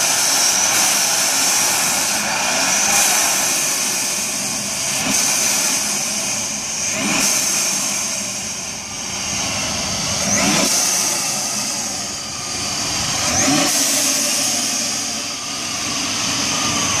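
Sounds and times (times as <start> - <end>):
car engine revving high: 0.0 - 17.0
steady high whine: 0.0 - 17.0.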